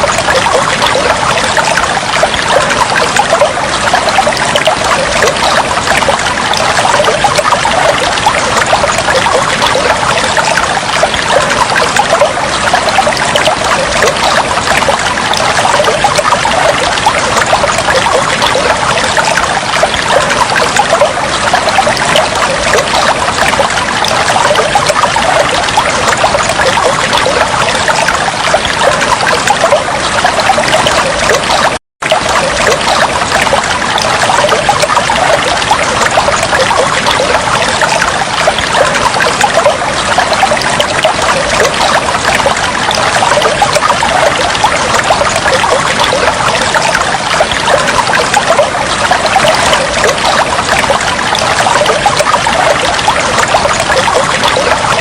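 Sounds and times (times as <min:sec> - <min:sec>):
water flowing and trickling: 0:00.0 - 0:55.0.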